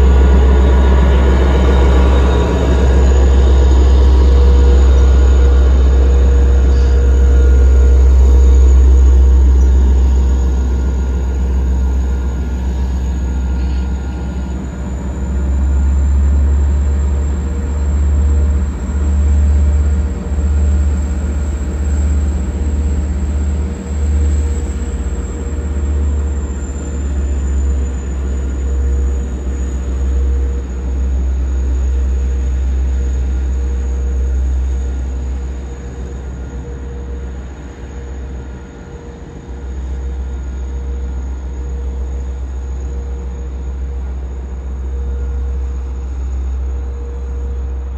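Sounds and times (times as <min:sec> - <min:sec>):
diesel locomotive engine rumbling: 0:00.0 - 0:47.9
high whine: 0:00.0 - 0:47.9
steady hum: 0:00.0 - 0:47.9.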